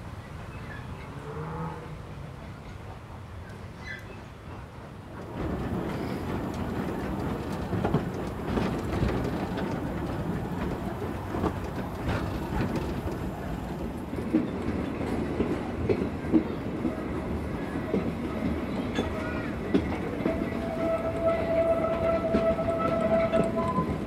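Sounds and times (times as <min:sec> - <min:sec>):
train coaches rumbling: 0:01.8 - 0:24.0
wheels clattering over rail joints: 0:04.5 - 0:24.0.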